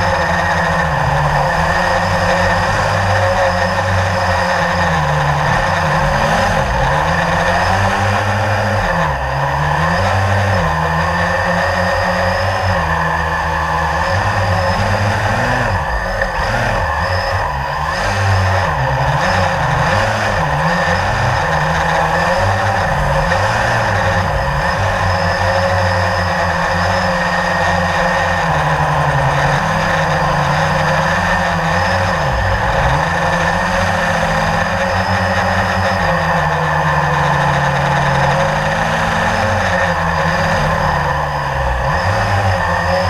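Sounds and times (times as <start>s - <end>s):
drone propellers buzzing: 0.0s - 43.0s.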